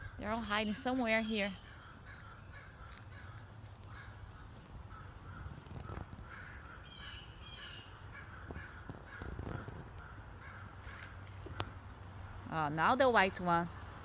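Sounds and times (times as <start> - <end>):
crows cawing: 0.0 - 11.9.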